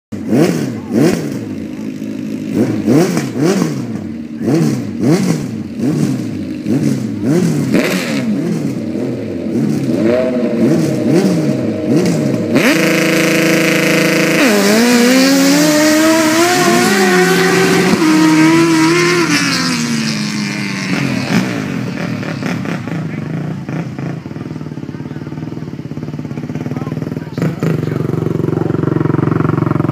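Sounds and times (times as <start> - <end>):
atv engines revving: 0.1 - 29.9.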